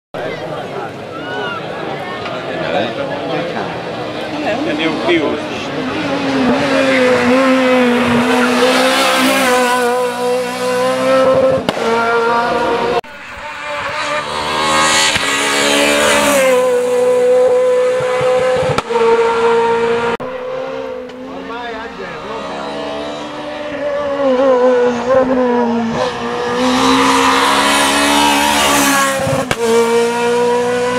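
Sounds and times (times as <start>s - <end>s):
rally car engine at full throttle: 0.2s - 30.9s.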